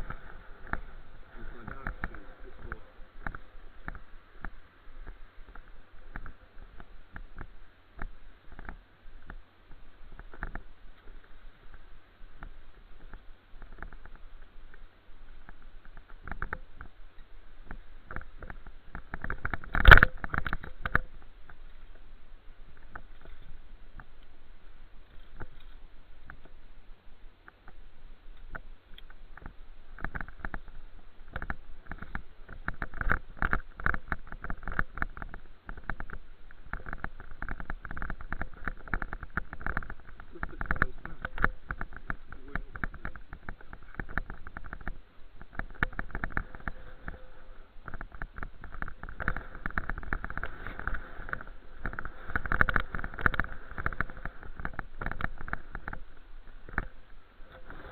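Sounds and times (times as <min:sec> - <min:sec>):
bicycle rattling and knocking: 0:00.0 - 0:24.3, 0:27.5 - 0:57.9.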